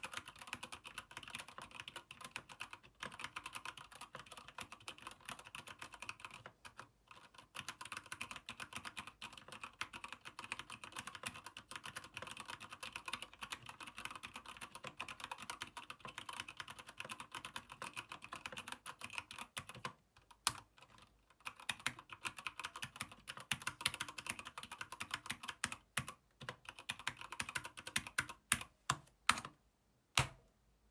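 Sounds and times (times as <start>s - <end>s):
mechanical keyboard typing: 0.0s - 29.6s.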